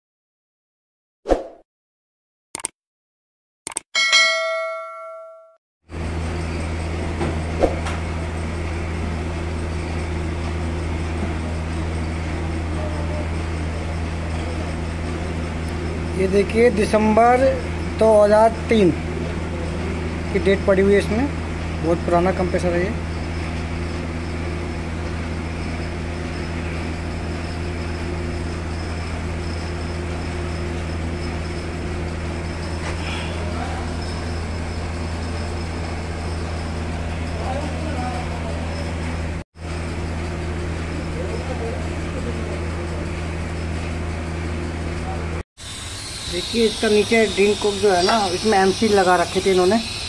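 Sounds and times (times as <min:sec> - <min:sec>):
air compressor humming: 0:05.9 - 0:50.0.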